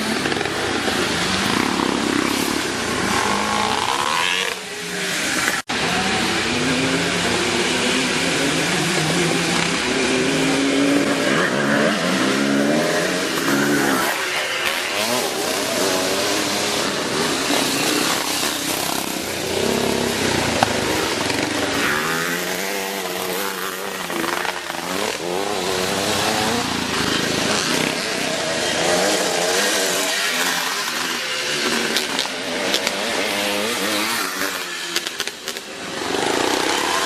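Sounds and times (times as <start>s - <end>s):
motocross motorcycles revving: 0.0s - 37.0s.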